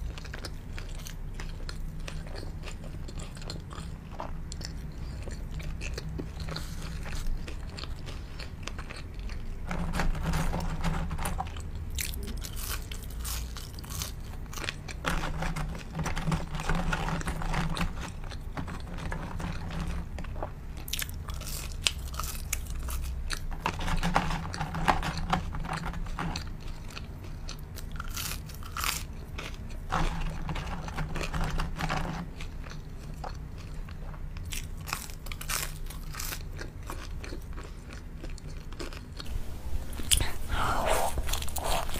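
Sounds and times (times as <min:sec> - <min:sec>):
person chewing and crunching: 0:00.0 - 0:41.9.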